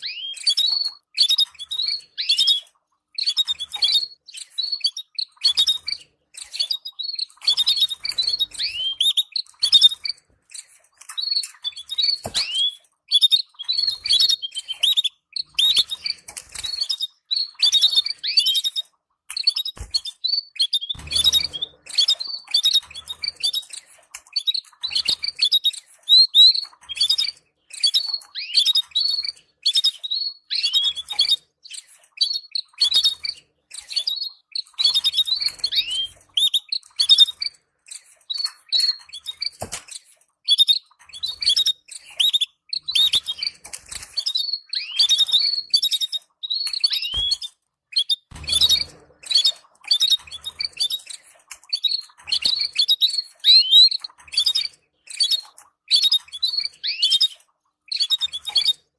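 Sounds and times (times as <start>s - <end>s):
canaries chirping: 0.0s - 58.9s.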